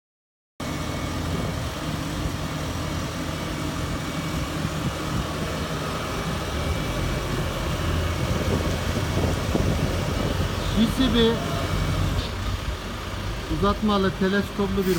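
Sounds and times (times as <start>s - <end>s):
diesel engine running steadily: 0.6s - 14.9s.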